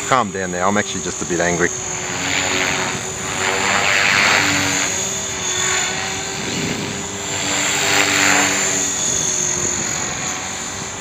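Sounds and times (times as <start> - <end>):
rc helicopter motor whine: 0.0 - 11.0.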